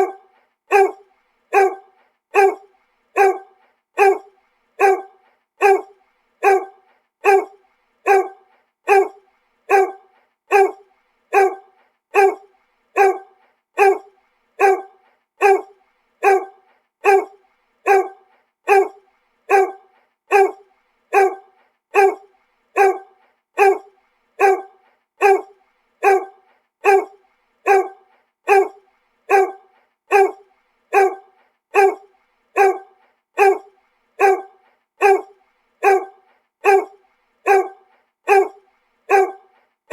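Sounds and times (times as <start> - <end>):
dog barking: 0.0 - 39.6.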